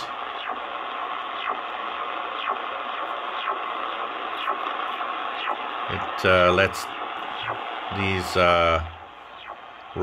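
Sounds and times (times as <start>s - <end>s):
faint repeating radio chirp: 0.0s - 10.0s
radio band noise: 0.0s - 10.0s.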